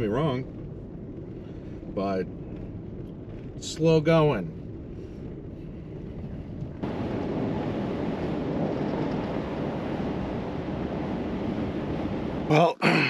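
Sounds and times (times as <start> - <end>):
wind on microphone: 0.0 - 12.6
engine and road rumble: 0.0 - 13.0.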